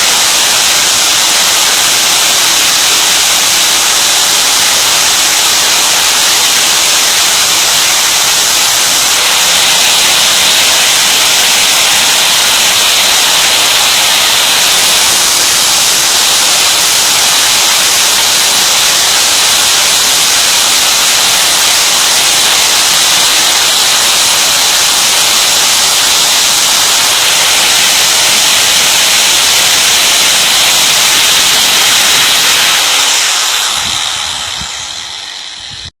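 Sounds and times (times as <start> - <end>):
drill bit grinding on abrasive wheel: 0.0 - 36.0.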